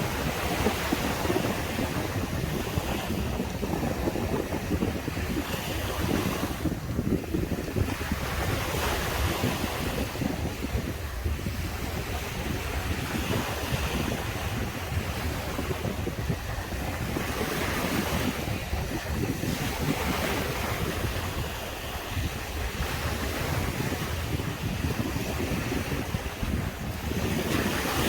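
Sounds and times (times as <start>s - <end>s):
surf breaking on a beach: 0.0s - 28.0s
wind buffeting the microphone: 0.0s - 28.0s.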